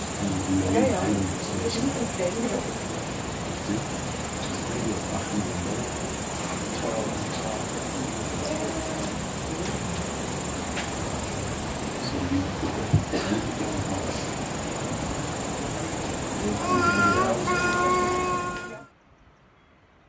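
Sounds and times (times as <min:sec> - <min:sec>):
constant hiss: 0:00.0 - 0:19.0
insects chirring: 0:00.0 - 0:19.0.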